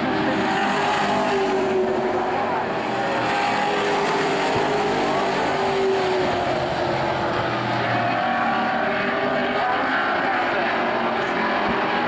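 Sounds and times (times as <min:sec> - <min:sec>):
race car engines running hard: 0:00.0 - 0:12.0.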